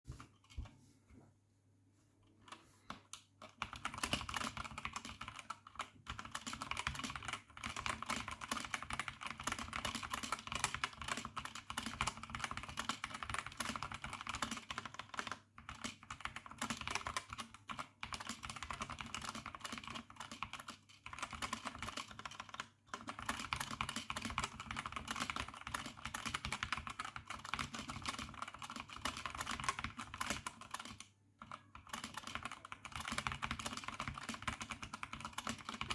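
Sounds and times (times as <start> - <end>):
fast keyboard typing: 3.4 - 35.9.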